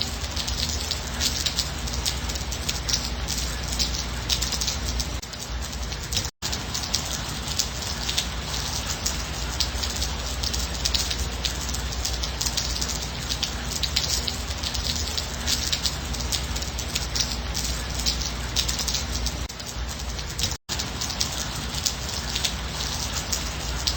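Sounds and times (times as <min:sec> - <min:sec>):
gentle rain hissing: 0:00.0 - 0:23.9
raindrops ticking on a surface: 0:00.0 - 0:23.9.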